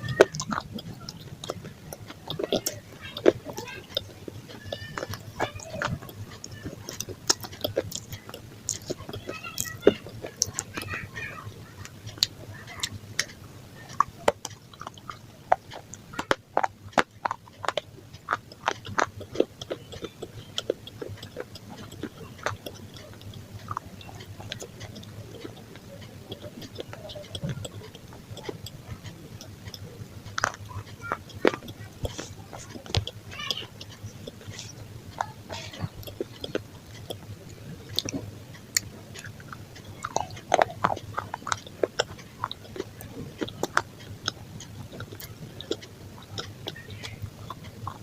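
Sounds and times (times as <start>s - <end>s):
chewing pizza crunches: 0.0s - 48.0s
mouth clicks: 0.0s - 48.0s.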